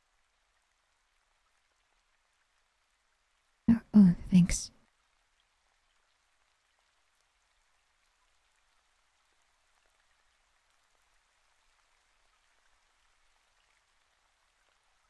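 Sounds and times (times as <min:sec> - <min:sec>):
faint steady rain: 0:00.0 - 0:15.0.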